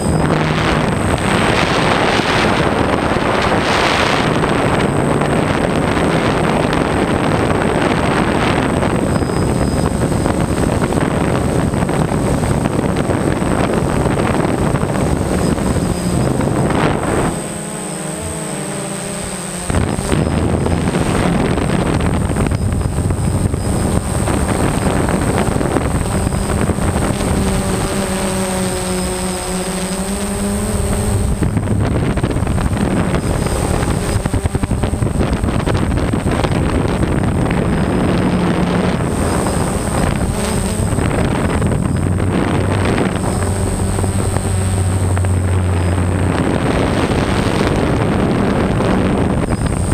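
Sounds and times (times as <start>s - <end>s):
drone propellers buzzing: 0.0s - 49.9s
thin high whine: 0.0s - 49.9s
wind rushing over microphone: 0.0s - 49.9s.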